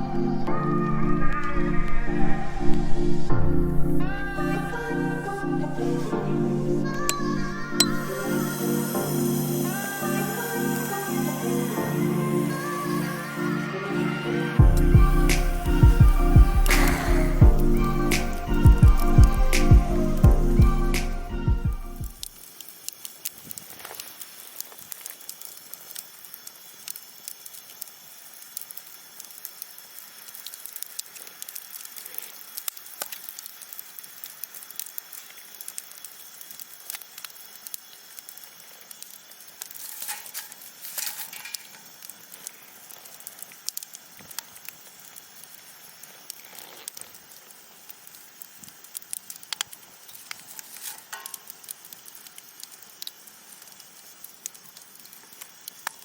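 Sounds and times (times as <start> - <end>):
campfire hiss: 0.0 - 56.0
campfire crackling and popping: 6.9 - 56.0.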